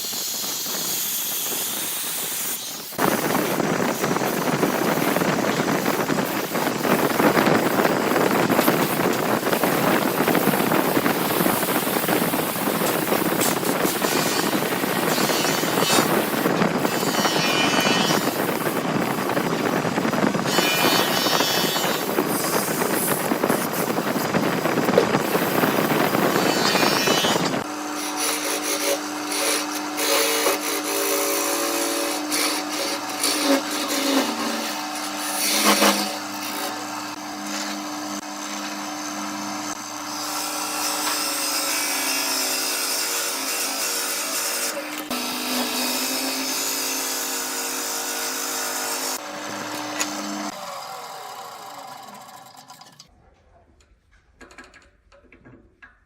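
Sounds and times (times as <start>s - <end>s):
power tool cutting wood: 0.0s - 53.1s.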